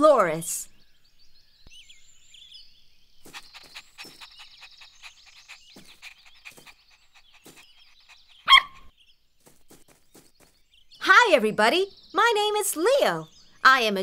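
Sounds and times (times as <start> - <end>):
birds twittering: 0.0 - 14.0.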